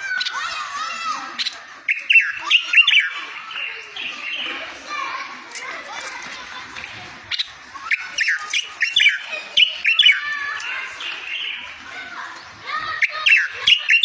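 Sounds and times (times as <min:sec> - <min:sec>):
songbird singing: 0:01.3 - 0:14.0.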